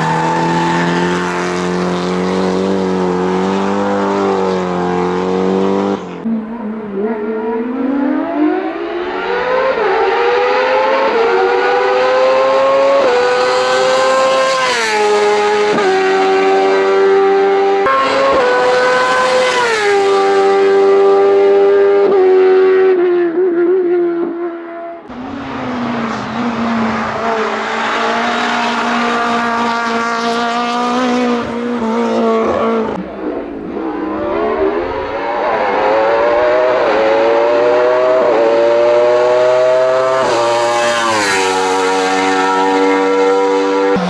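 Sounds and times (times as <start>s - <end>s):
racing car engines at full throttle: 0.0s - 44.0s.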